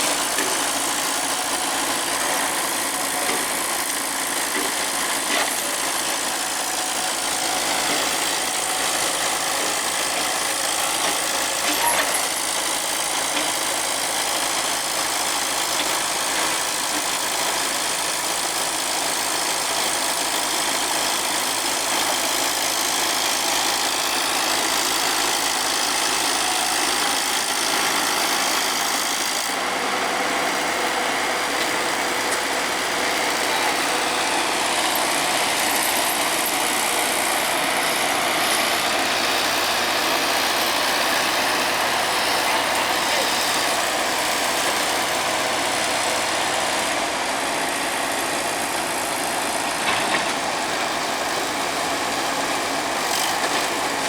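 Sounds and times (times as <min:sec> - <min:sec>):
diesel engine running: 0:00.0 - 0:17.9, 0:20.8 - 0:54.0.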